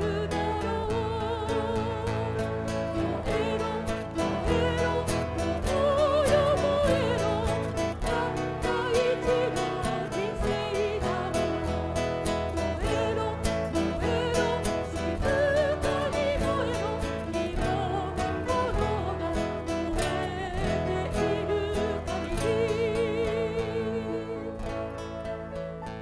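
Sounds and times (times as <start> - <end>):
person singing with vibrato: 0.0 - 25.2
piano accompaniment: 0.0 - 26.0.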